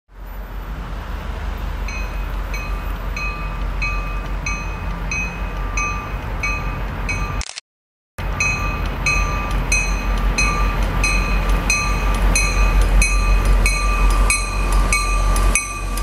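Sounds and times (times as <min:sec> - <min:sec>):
train rumbling: 0:00.1 - 0:07.4, 0:08.2 - 0:16.0
railroad bell ringing: 0:01.7 - 0:07.4, 0:08.2 - 0:16.0.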